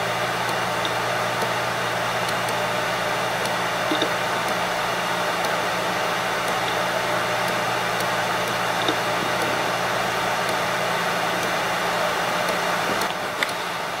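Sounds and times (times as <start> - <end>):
hard drive whirring: 0.0 - 14.0
faint hard drive ticks: 0.2 - 13.7.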